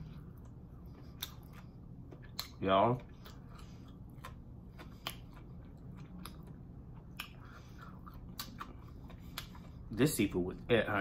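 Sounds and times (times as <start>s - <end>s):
person chewing food: 0.0s - 10.3s.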